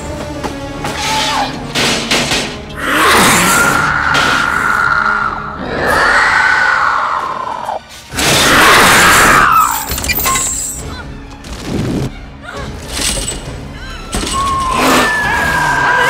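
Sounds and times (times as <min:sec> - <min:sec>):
dramatic orchestral music: 0:00.0 - 0:16.0.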